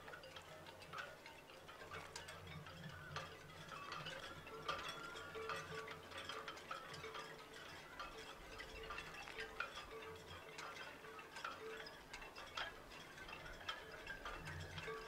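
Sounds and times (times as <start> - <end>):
tinkling chime-like music: 0.0 - 15.0.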